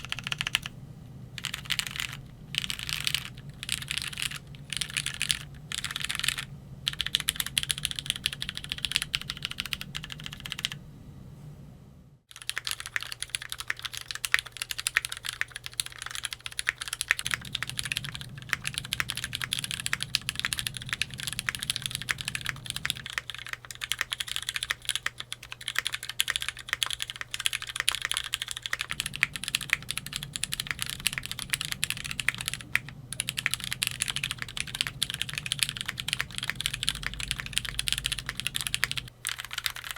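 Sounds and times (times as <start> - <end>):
mechanical keyboard typing: 0.0 - 0.7, 1.4 - 10.8, 12.3 - 39.9
faint low hum: 0.0 - 39.9.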